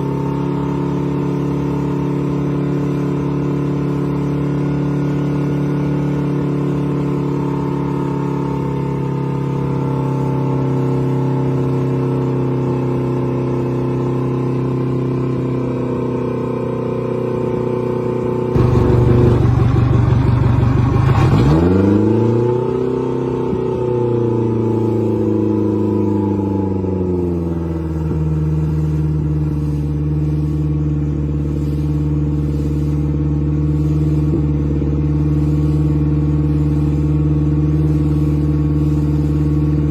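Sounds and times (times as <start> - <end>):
boat engine idling and revving: 0.0 - 39.9.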